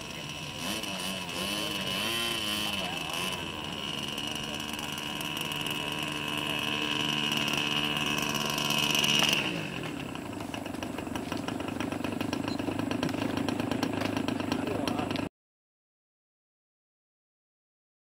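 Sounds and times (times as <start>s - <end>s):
model airplane engine: 0.0s - 15.3s.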